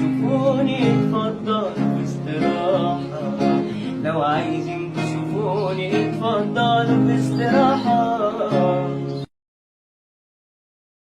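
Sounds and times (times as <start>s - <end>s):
person singing: 0.0s - 9.3s
plucked string guitar: 0.0s - 9.3s.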